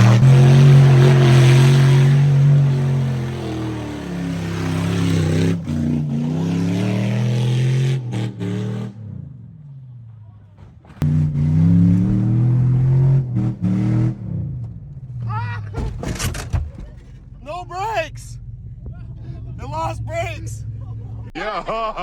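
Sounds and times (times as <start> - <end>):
car engine revving: 0.0 - 10.1, 10.8 - 21.3.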